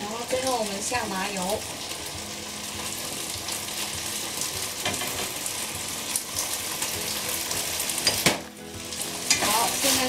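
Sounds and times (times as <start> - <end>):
rice sizzling in frying pan: 0.0 - 10.0.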